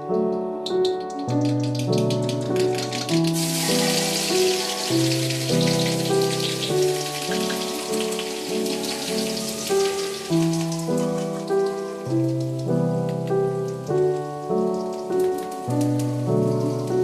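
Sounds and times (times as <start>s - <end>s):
music of held chords: 0.0s - 17.0s
crackling hiss: 0.7s - 17.0s.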